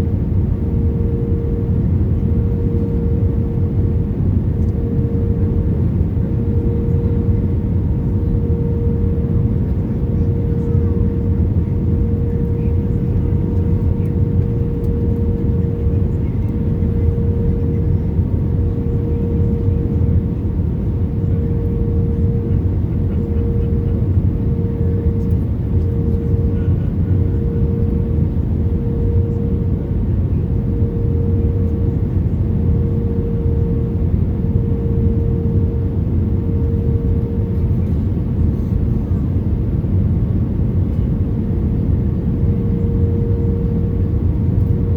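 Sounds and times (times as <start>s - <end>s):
airplane cabin rumble: 0.0s - 44.9s
mid-pitched hum: 0.0s - 44.9s.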